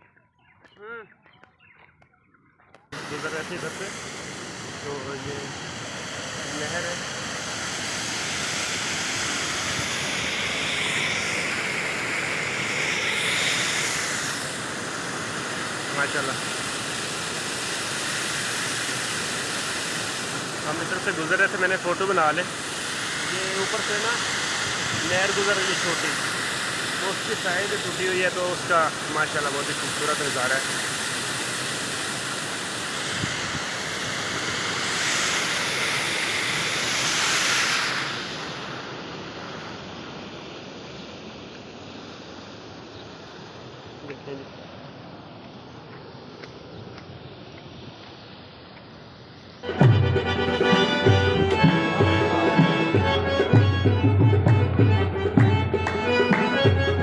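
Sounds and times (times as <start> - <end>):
water rushing: 2.9 - 57.0.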